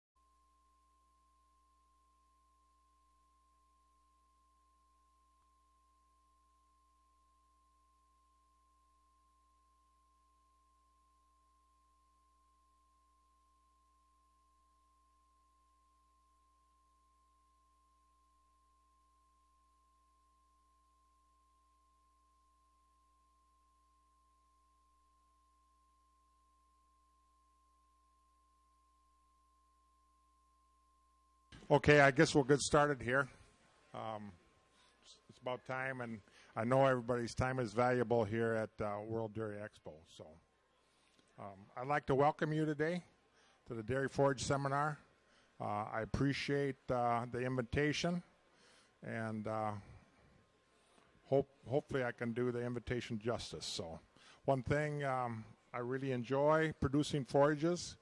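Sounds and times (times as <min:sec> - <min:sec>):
faint steady hum: 0:00.2 - 0:58.0
thin steady tone: 0:00.2 - 0:58.0.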